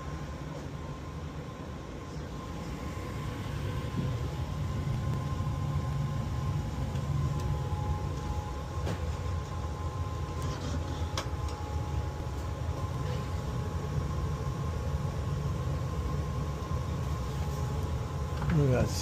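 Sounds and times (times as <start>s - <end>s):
furnace rumbling: 0.0s - 19.0s
furnace whine: 0.0s - 19.0s.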